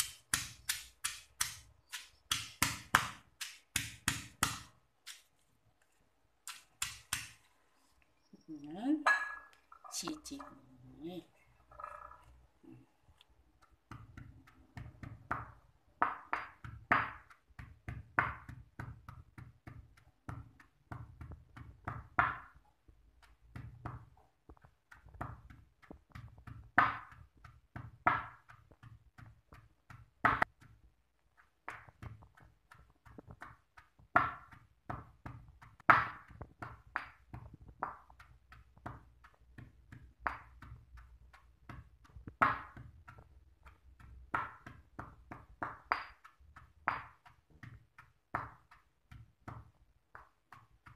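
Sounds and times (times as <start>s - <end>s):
stone pestle pounding in mortar: 0.0s - 5.3s, 6.4s - 7.4s, 13.5s - 50.9s.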